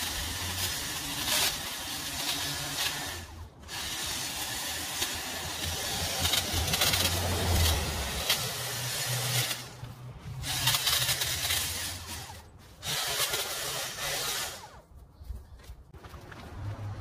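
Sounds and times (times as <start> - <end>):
hedge trimmer cutting shrub: 0.0 - 14.8.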